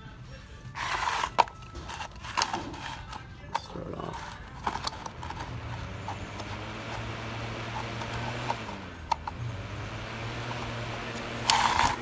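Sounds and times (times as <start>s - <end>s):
desk fan running: 0.0s - 12.0s.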